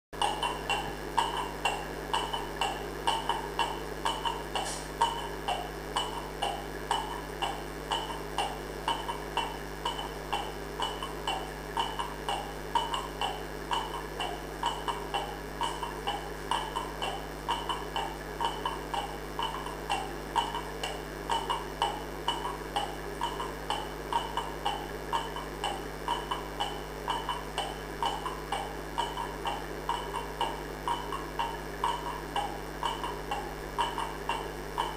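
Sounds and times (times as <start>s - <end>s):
soft evenly spaced ticks: 0.2s - 34.9s
steady low hum: 0.2s - 34.9s.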